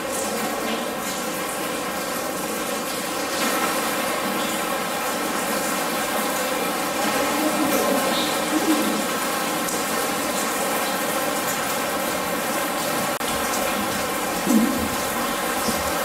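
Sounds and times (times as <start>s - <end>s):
rain pattering on metal roofs: 0.0s - 16.0s.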